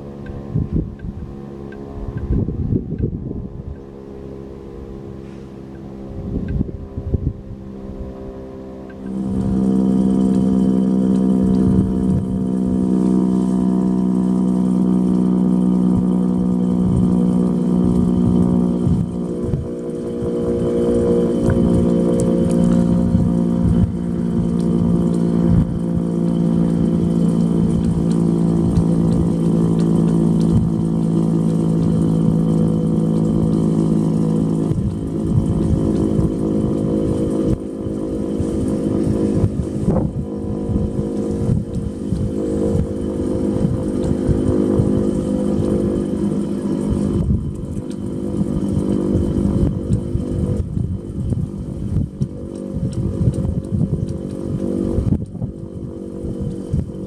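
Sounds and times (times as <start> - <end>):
dual-tone warning siren: 0.0 - 57.0
wind buffeting microphone: 0.0 - 57.0.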